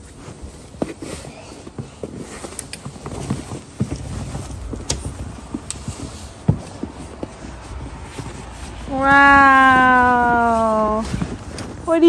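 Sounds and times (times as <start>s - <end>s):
boots crunching in snow: 0.0s - 12.0s.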